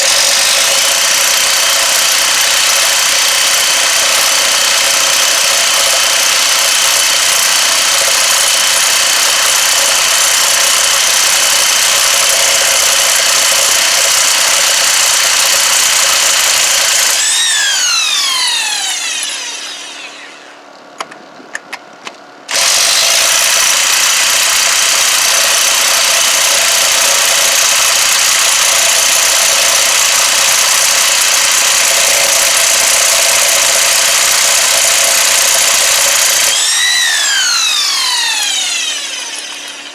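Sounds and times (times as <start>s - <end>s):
electric impact wrench running: 0.0s - 20.7s, 22.5s - 39.9s.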